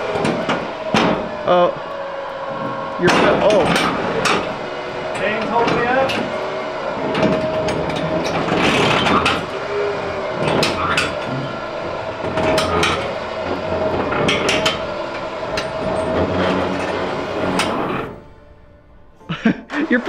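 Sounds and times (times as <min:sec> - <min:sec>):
sharp knocks and clunks: 0:00.0 - 0:01.5, 0:02.5 - 0:18.4
winch motor whine: 0:00.0 - 0:20.0.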